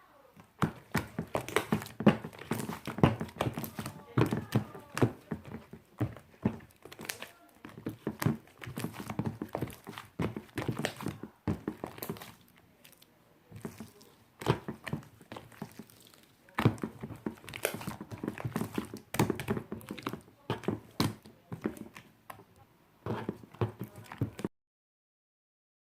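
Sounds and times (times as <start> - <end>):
slime squished by hand: 0.4 - 22.5, 23.1 - 24.5.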